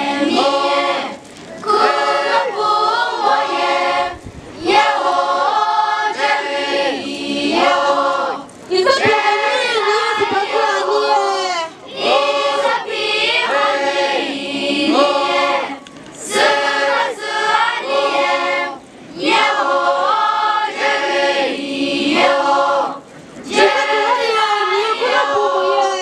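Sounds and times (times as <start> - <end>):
young voices singing together: 0.0 - 26.0.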